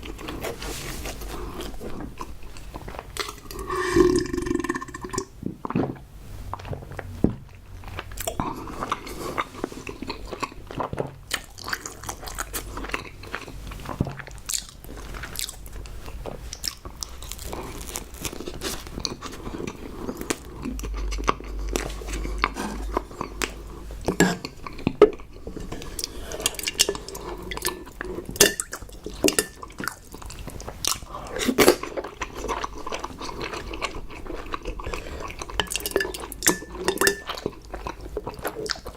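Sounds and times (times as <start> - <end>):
food crunching: 0.0 - 38.9
person chewing food: 0.0 - 38.9.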